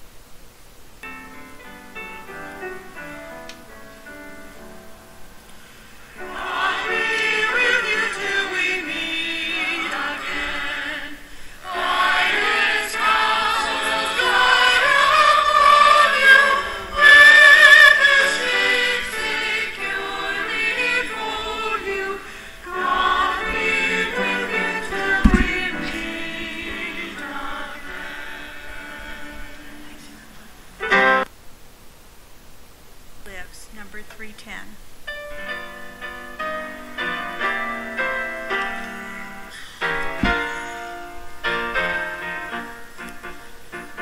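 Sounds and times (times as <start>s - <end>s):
choir singing a hymn: 2.0s - 31.2s, 36.4s - 44.0s.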